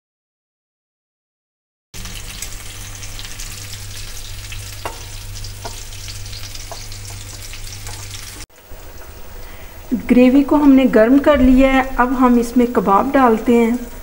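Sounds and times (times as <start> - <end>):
kebabs sizzling in hot oil: 2.0 - 14.0
low steady hum: 2.0 - 14.0.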